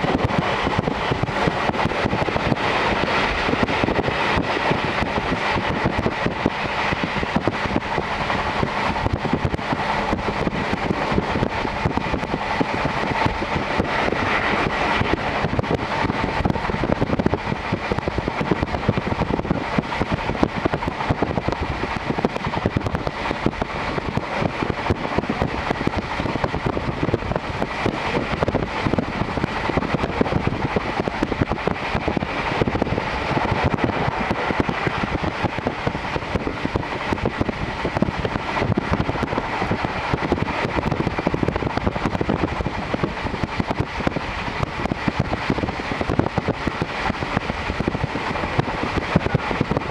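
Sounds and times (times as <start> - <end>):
train wheels rushing on rails: 0.0 - 49.9
wind noise: 0.0 - 49.9.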